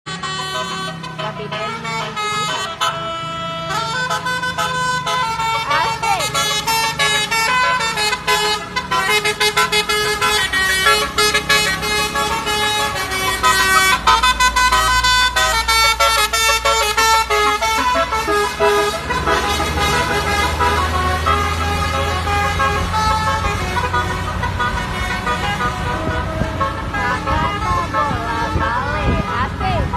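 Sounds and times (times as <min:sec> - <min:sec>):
musical bus air horn toots: 0:00.0 - 0:29.9
low engine hum: 0:00.1 - 0:29.9.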